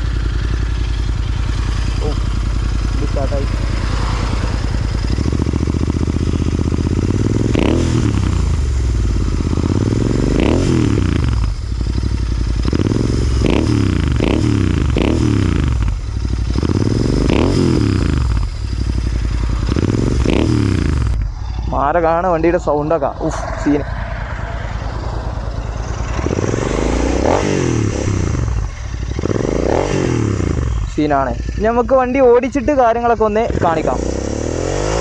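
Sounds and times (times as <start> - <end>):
motorcycle engine idling: 0.0 - 34.4
engine revving: 0.0 - 35.0.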